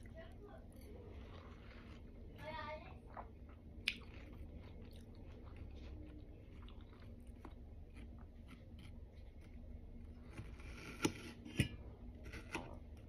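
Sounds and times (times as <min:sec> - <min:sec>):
wet chewing: 0:00.0 - 0:11.3.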